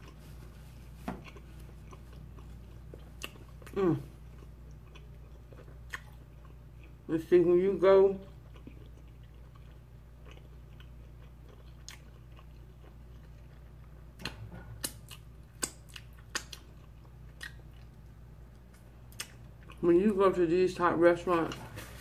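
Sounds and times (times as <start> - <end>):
person chewing: 0.0 - 7.1, 8.2 - 19.8
low steady hum: 0.0 - 22.0.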